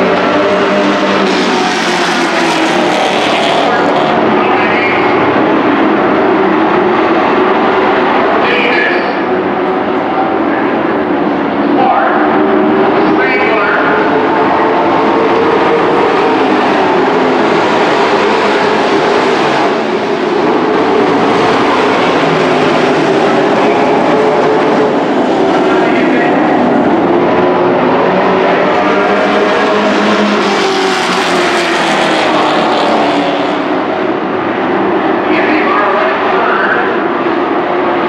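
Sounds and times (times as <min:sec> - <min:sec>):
race truck engines: 0:00.0 - 0:38.0.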